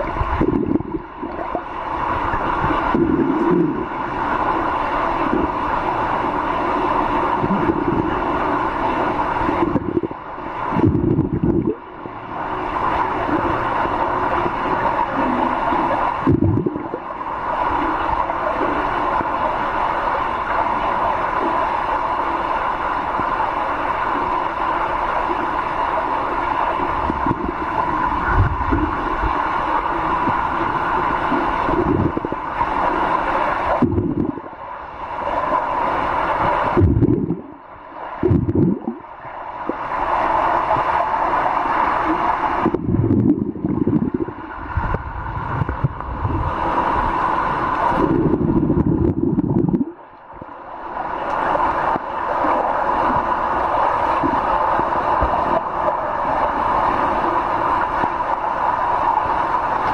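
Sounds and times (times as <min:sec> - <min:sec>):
muffled underwater rushing and gurgling: 0:00.0 - 0:59.9.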